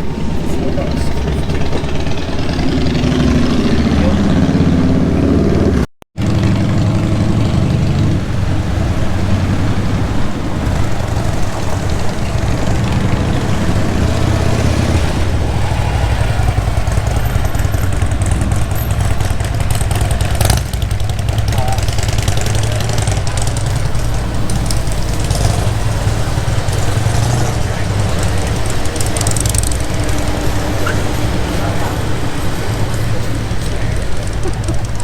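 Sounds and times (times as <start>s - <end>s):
motorcycle engines rumbling: 0.0s - 35.0s.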